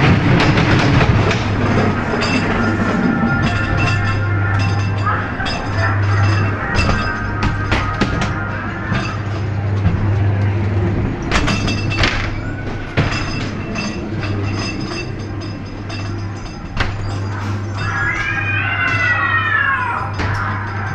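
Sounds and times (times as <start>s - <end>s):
ride car rattling over rails: 0.0s - 20.9s
steady low hum: 0.0s - 20.9s.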